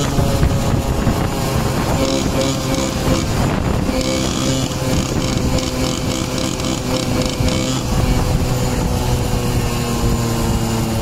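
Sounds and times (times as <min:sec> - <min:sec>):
small motorcycle engine running: 0:00.0 - 0:11.0
wind on microphone: 0:00.0 - 0:11.0.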